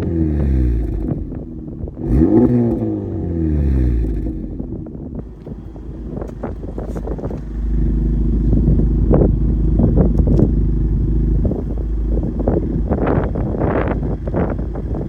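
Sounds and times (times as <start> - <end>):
car exhaust note while driving: 0.0 - 15.0.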